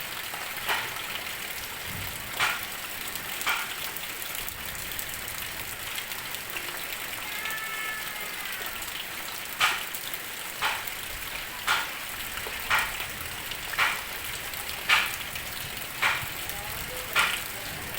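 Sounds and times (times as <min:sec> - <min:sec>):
heavy rain: 0:00.0 - 0:17.9.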